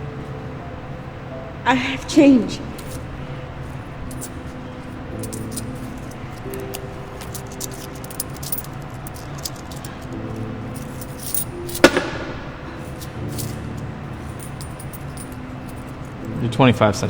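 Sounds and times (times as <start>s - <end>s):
quiet background music: 0.0s - 17.0s
coins clinking: 2.6s - 16.5s.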